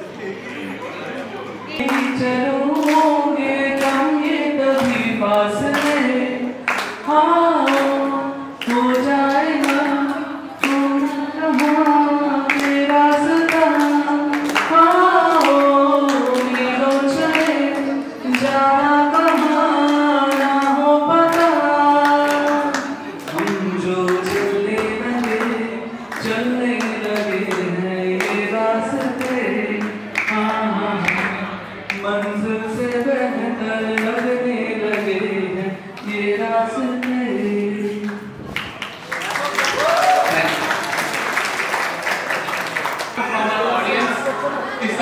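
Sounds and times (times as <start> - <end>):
person singing a melody: 1.7 - 38.6.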